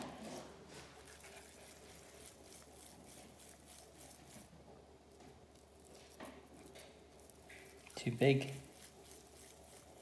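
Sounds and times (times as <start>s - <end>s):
minced meat squishing between palms: 0.0s - 10.0s.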